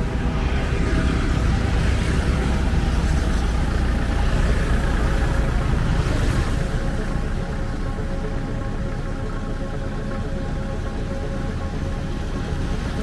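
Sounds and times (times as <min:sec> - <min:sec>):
road noise: 0:00.0 - 0:13.0
vehicle engines rumbling: 0:00.0 - 0:13.0.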